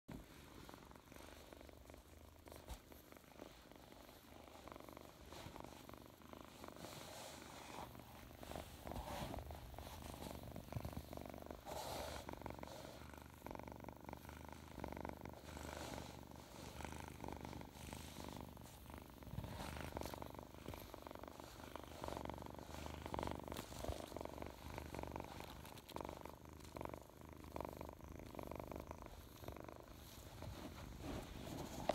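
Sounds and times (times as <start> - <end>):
brush strokes through fur: 0.1 - 31.9
kitten purring: 0.1 - 31.9.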